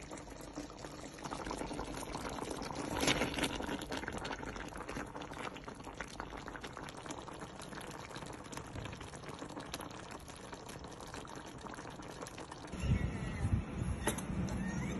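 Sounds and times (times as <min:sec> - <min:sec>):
pot bubbling at a boil: 0:00.0 - 0:14.9.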